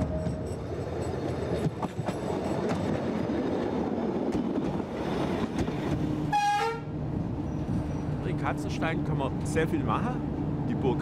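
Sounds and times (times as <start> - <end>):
diesel railcar rumbling past: 0.0 - 11.0.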